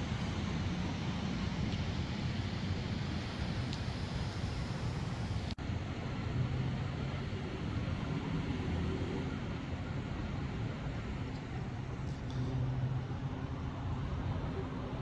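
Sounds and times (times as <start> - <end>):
street noise: 0.0 - 15.0
vehicle engines idling: 0.0 - 15.0.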